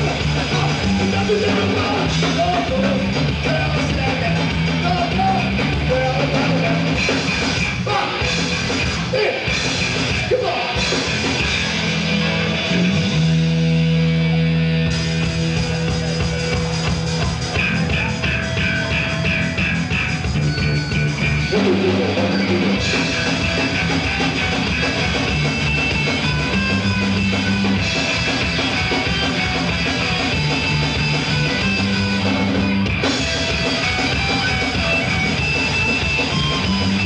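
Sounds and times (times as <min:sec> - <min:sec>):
punk band playing: 0:00.0 - 0:37.0.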